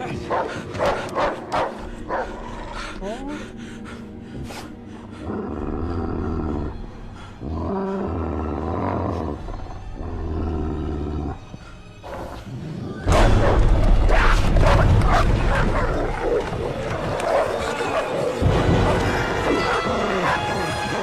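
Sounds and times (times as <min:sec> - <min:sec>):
dogs barking and snarling: 0:00.0 - 0:21.0
dogs growling: 0:00.1 - 0:21.0.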